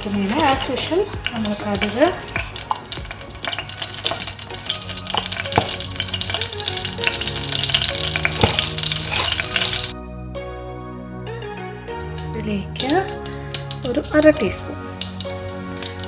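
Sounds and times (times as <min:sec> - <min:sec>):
oil sizzling and crackling: 0:00.0 - 0:10.0, 0:12.0 - 0:16.0
soft background music: 0:00.0 - 0:16.0.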